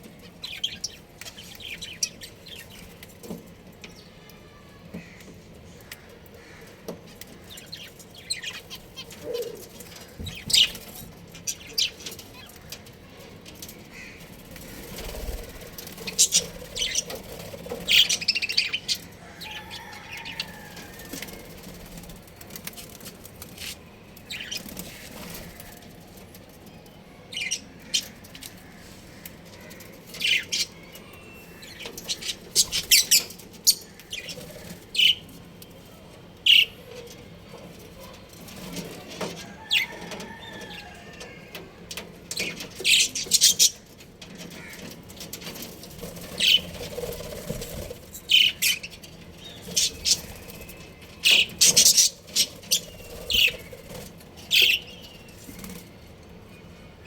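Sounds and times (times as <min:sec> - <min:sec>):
budgies chirping: 0:00.2 - 0:03.0, 0:06.0 - 0:12.6, 0:13.9 - 0:25.9, 0:27.3 - 0:35.4, 0:36.4 - 0:41.2, 0:42.3 - 0:55.8.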